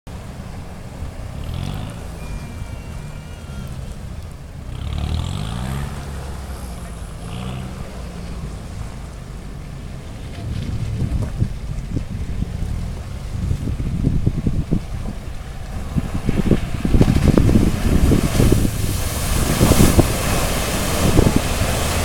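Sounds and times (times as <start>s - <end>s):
off-road vehicle engine revving: 1.2s - 14.1s, 15.6s - 22.0s.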